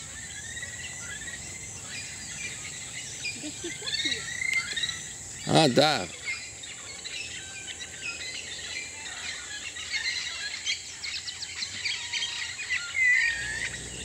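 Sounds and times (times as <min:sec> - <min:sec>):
birds chirping and calling: 0:00.0 - 0:14.0
high-pitched insect drone: 0:00.0 - 0:14.0.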